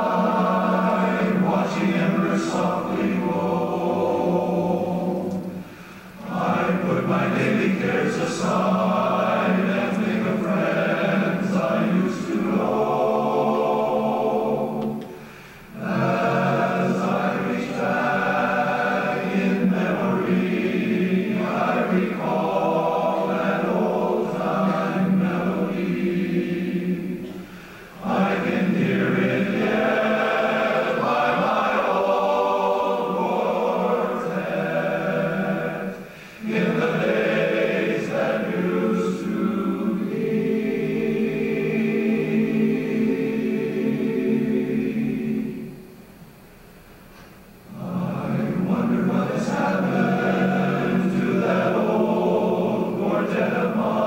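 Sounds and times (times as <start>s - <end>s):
men's chorus singing a cappella: 0.0s - 45.9s, 47.7s - 54.0s.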